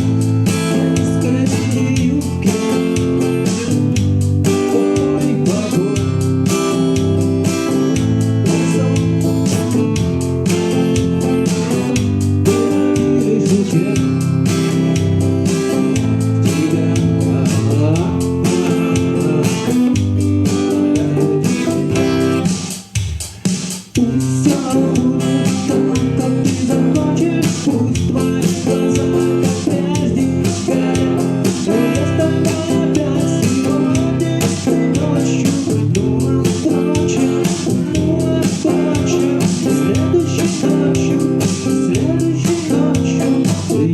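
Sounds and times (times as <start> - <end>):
acoustic guitar strummed chords: 0.0 - 43.9.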